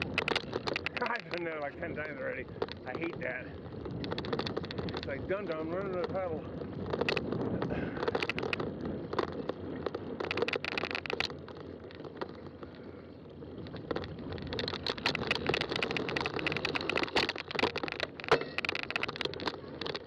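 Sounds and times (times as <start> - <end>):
bike rattling and clicking: 0.0 - 20.0
bike tyres on rough trail: 0.0 - 20.0.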